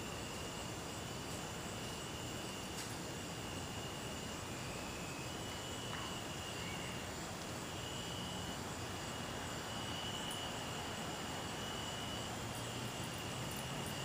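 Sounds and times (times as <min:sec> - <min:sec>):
outdoor evening background noise: 0:00.0 - 0:14.0.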